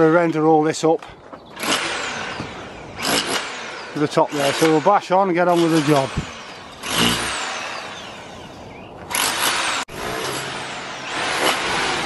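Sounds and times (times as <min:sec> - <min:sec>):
vehicle engine and tyre noise: 0:01.3 - 0:12.0.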